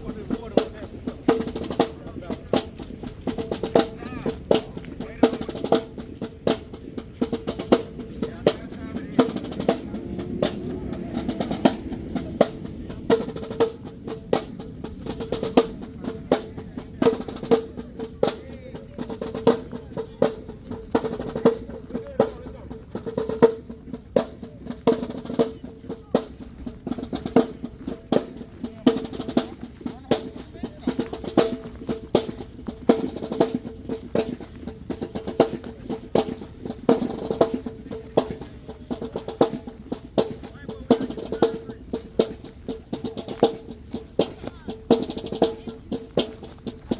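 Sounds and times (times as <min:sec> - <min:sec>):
bass drums: 0:00.0 - 0:46.9
snare drum strikes and rolls: 0:00.0 - 0:46.9.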